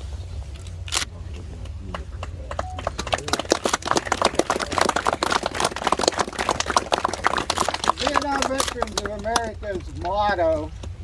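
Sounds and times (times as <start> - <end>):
crowd applauding: 1.6 - 11.0.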